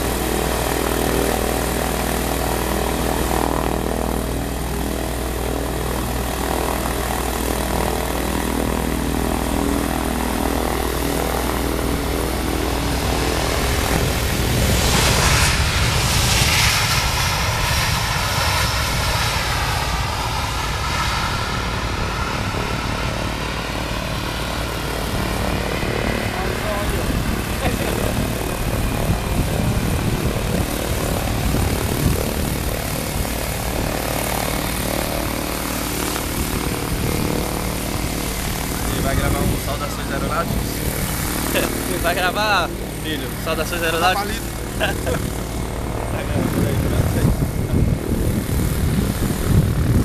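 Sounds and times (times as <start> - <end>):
airliner jet engines: 0.0 - 50.0
wavering jet whine: 0.0 - 50.0.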